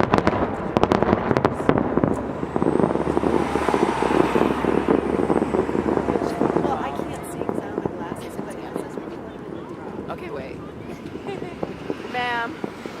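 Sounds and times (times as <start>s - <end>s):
fireworks bangs: 0.0s - 13.0s
fireworks crackling: 0.0s - 13.0s
low rumble: 0.0s - 13.0s.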